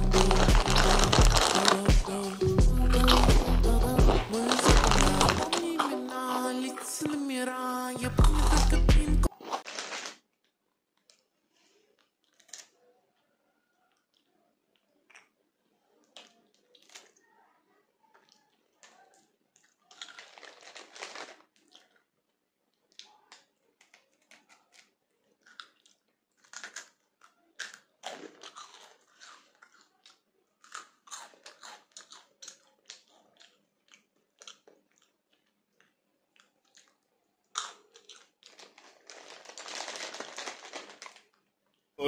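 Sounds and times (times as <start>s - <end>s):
snack being crunched and chewed: 0.0s - 7.2s, 8.2s - 11.4s, 12.0s - 12.9s, 13.9s - 17.3s, 18.1s - 41.8s
snack packet rustling: 0.0s - 12.9s, 13.9s - 17.4s, 18.1s - 41.9s.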